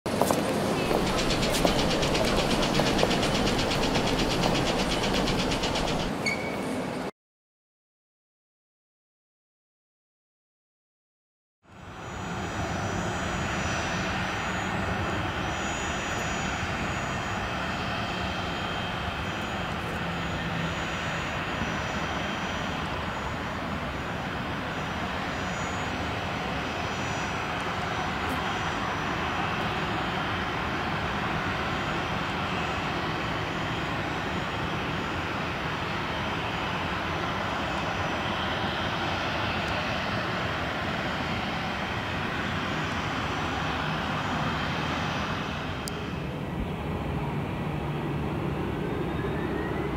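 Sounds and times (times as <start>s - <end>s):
jet engines running: 0.1s - 7.1s, 11.7s - 49.9s.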